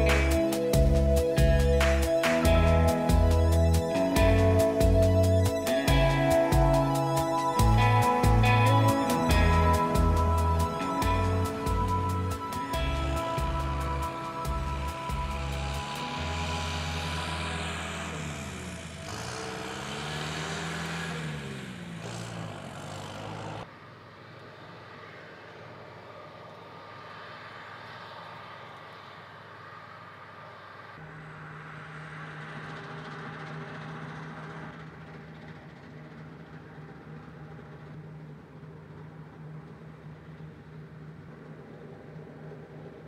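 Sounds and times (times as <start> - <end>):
combine harvester engine and threshing: 0.0 - 43.0.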